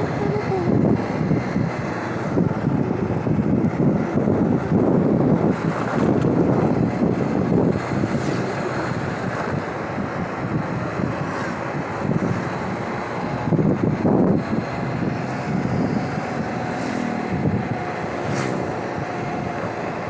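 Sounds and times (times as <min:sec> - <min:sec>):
motorbike running: 0:00.0 - 0:20.0
wind buffeting microphone: 0:00.0 - 0:20.0.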